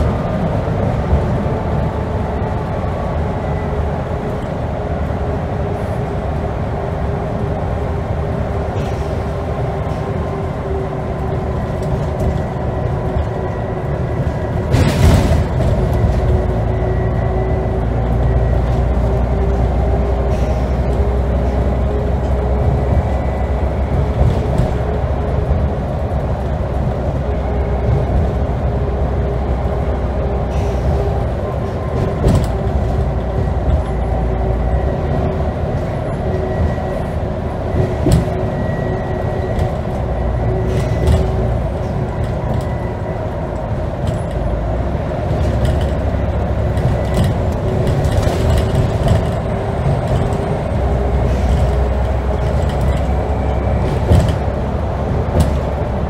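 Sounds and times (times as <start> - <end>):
bus engine drone: 0.0 - 56.0
constant whine: 0.0 - 56.0
road rumble: 0.0 - 56.0.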